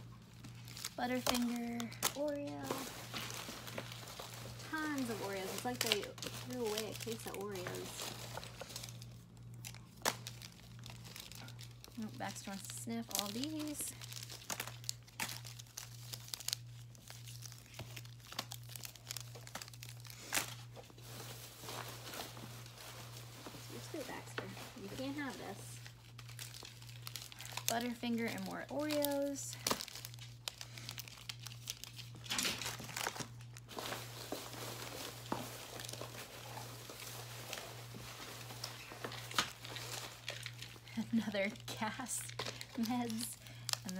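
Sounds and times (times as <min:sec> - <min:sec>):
plastic wrappers crinkling: 0:00.0 - 0:43.9.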